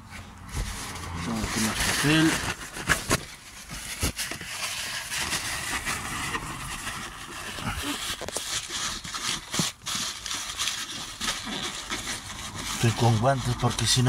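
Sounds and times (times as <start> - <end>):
paper towel rubbing: 0.1 - 14.0
plastic bag crinkling: 0.8 - 13.1.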